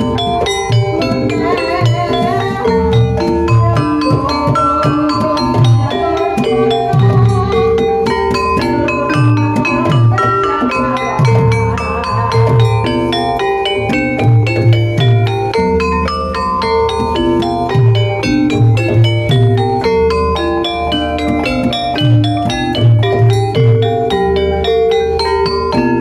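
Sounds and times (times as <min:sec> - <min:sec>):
low drum beats: 0:00.0 - 0:24.6
gamelan mallet instruments: 0:00.0 - 0:26.0.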